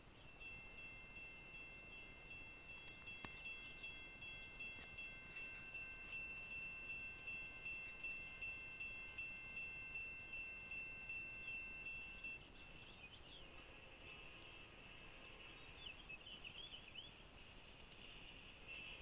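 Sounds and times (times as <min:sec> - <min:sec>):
crossing warning bell ringing: 0:00.0 - 0:15.5.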